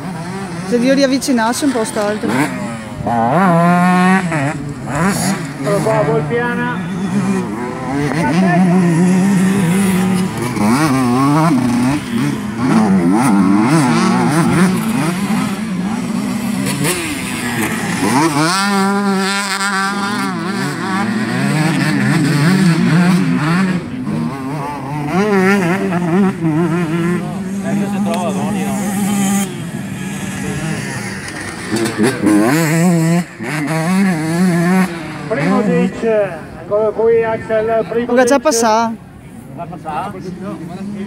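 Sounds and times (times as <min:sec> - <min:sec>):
motocross bikes revving: 0:00.0 - 0:41.0.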